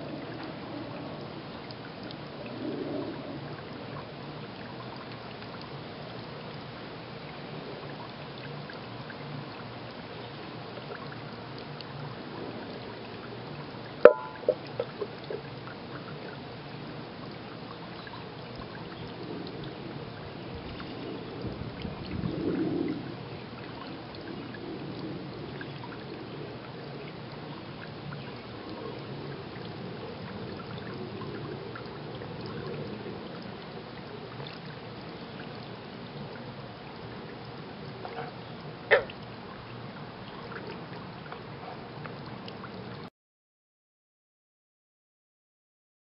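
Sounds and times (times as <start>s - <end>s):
ambient background noise: 0.0s - 43.1s.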